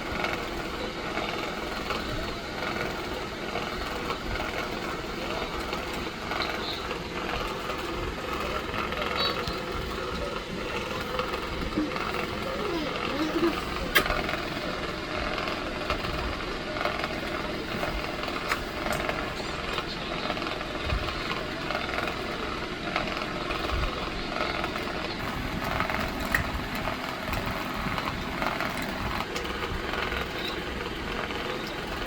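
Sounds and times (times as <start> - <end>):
electric fan whirring: 0.0 - 32.0.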